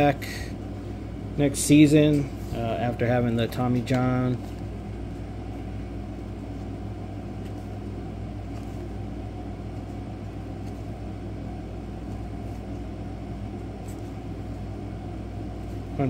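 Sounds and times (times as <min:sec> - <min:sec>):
machine rumble and hum: 0:00.0 - 0:16.0.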